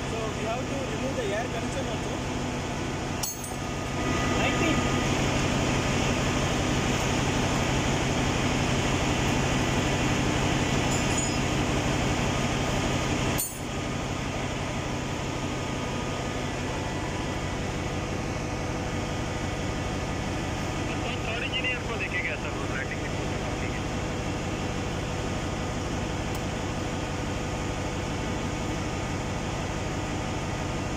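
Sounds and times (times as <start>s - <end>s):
engine-room machinery drone: 0.0s - 30.9s.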